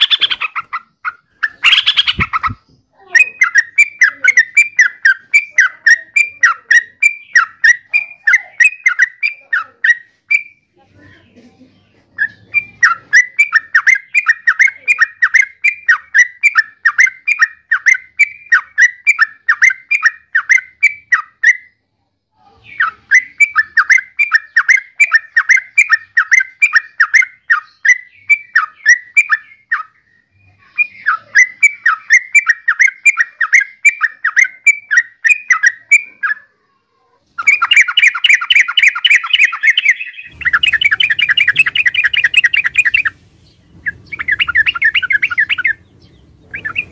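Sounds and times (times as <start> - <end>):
bulbul calling: 0.0 - 11.4, 12.1 - 21.8, 22.5 - 36.5, 37.4 - 46.9.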